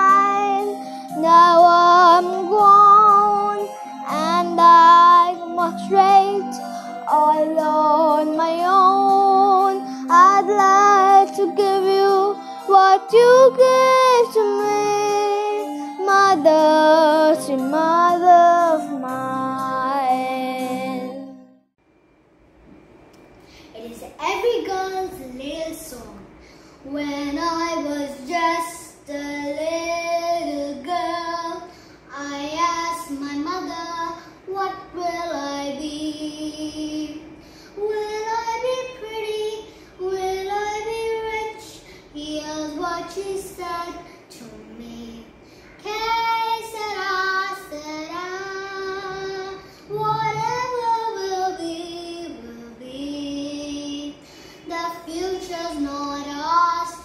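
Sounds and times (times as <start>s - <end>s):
girl singing: 0.0s - 21.4s, 23.8s - 57.0s.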